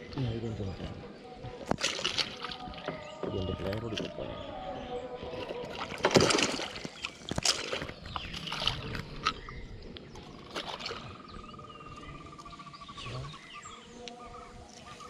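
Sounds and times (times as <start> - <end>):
knocks and splashes around boat: 0.0 - 12.1.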